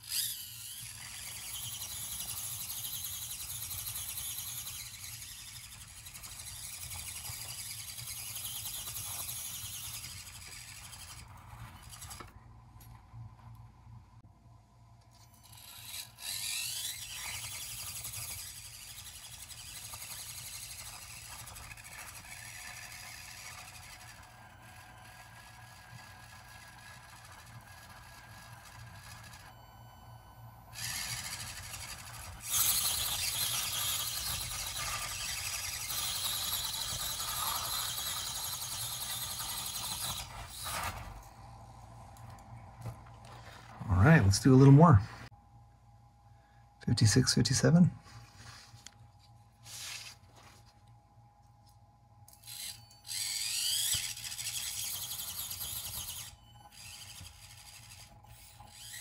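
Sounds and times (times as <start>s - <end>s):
small electric motor whining: 0.0s - 12.4s, 15.1s - 44.9s, 52.3s - 59.0s.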